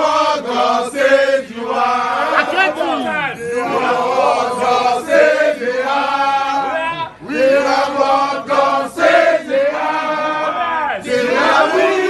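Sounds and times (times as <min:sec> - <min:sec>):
male voices chanting: 0:00.0 - 0:12.0.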